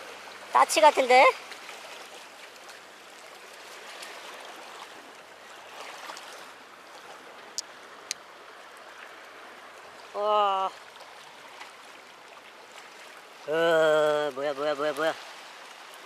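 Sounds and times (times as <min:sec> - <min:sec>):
seawater sloshing among concrete: 0:00.0 - 0:16.0.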